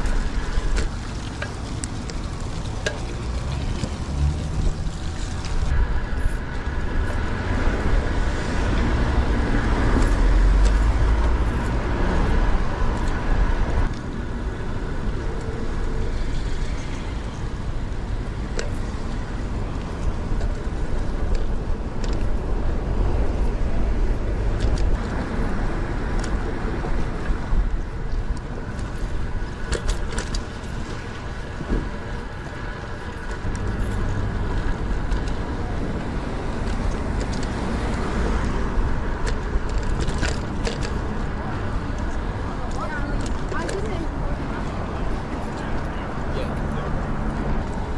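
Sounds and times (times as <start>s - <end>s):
cars passing close by: 0.0s - 47.9s
steady low rumble: 0.0s - 47.9s.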